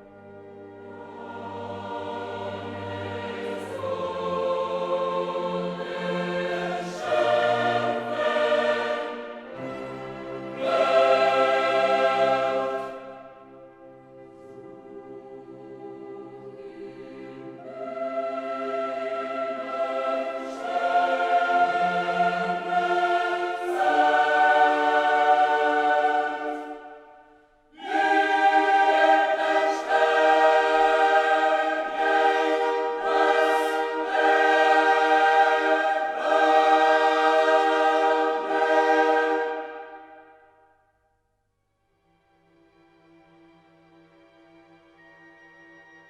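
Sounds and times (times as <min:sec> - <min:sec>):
choir singing held chords: 0:00.0 - 0:40.8.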